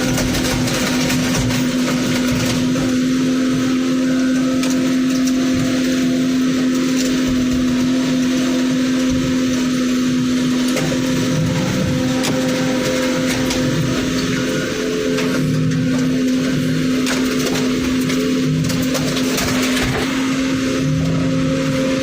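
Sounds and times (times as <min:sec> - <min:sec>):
motor droning: 0:00.0 - 0:22.0.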